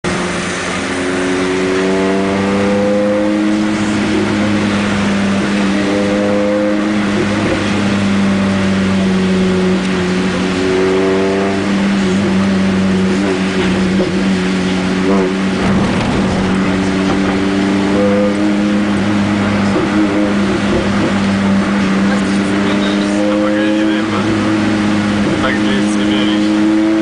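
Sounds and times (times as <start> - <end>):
car engine running loud: 0.0 - 27.0.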